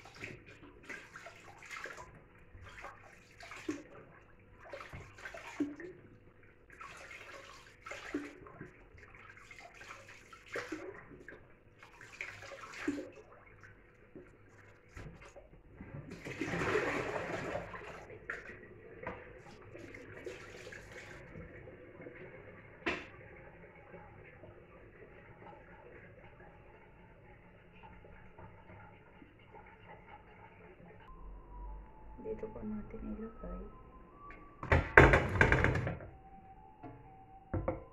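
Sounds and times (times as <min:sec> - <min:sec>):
water splashing in a basin: 0:00.0 - 0:37.9.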